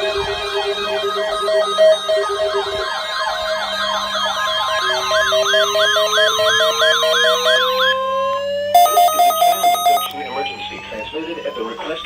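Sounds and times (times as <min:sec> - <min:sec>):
pulsing siren tone: 0:00.0 - 0:12.0
siren wail rising: 0:00.0 - 0:12.0
siren yelp sweeps: 0:00.0 - 0:12.0.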